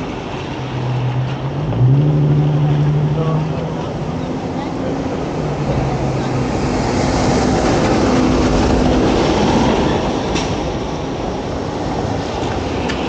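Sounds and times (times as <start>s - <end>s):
large vehicle passing: 0.0s - 13.0s.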